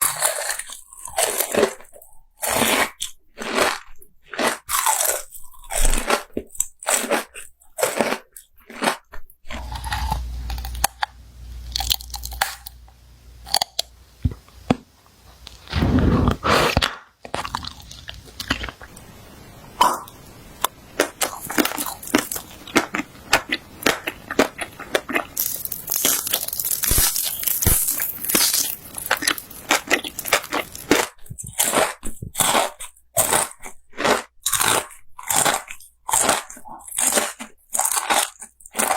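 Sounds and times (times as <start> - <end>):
crunchy bites: 0.0 - 18.9, 19.8 - 38.9
chewing crunches: 0.0 - 19.0, 19.8 - 38.9.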